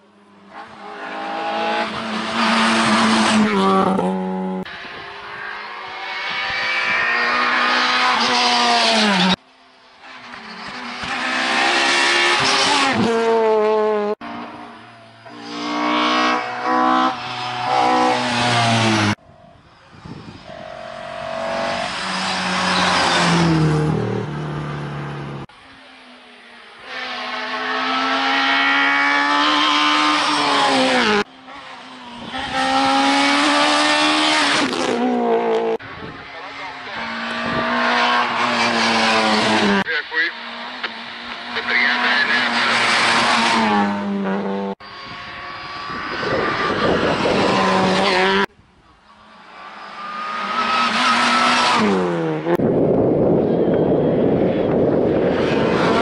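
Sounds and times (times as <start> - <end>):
rally cars revving past: 0.3 - 9.4, 10.0 - 19.2, 19.9 - 56.0.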